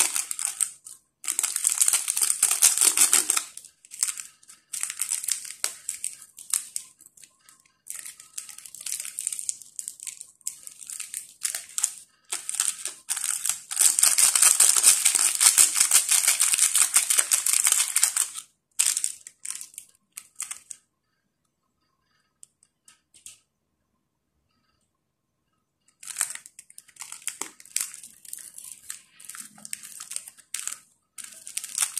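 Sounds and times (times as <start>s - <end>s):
plastic sachets crinkling and tearing: 0.0s - 20.8s, 26.0s - 31.9s.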